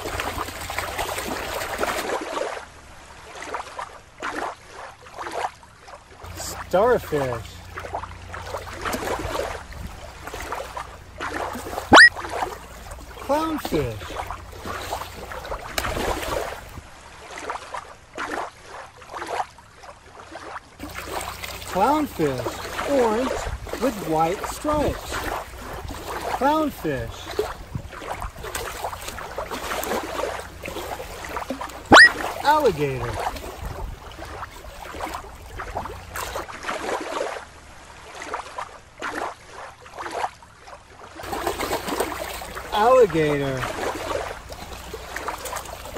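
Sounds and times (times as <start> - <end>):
shallow water lapping: 0.0 - 45.9.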